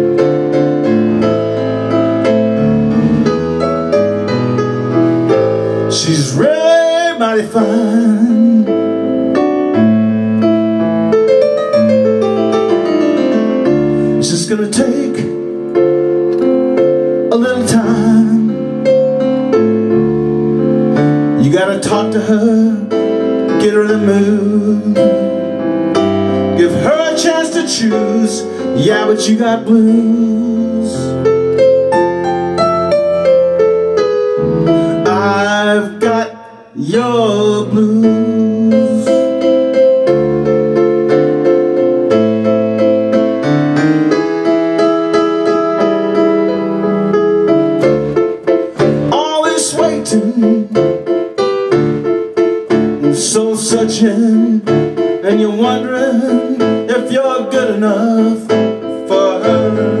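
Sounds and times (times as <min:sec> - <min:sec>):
keyboard piano chords and runs: 0:00.0 - 1:00.0.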